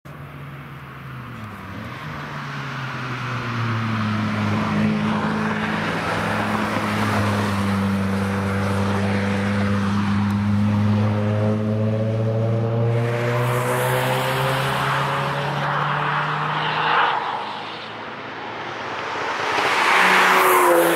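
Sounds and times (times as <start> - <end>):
car engine approaching: 0.2 - 20.9.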